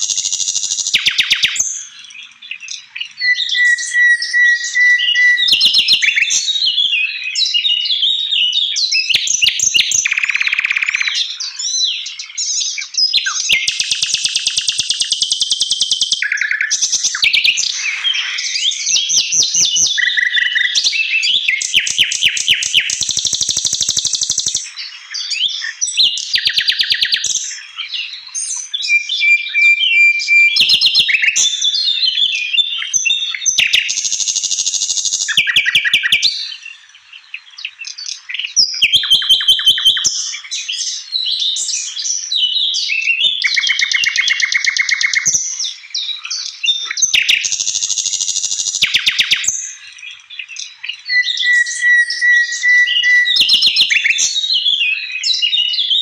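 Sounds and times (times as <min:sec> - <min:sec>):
songbird trilling and whistling: 0:00.0 - 0:56.0.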